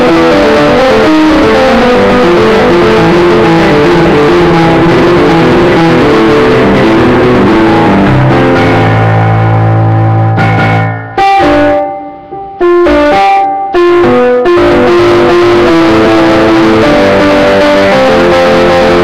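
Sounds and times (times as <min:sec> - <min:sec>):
electronic keyboard fast run: 0:00.0 - 0:19.0.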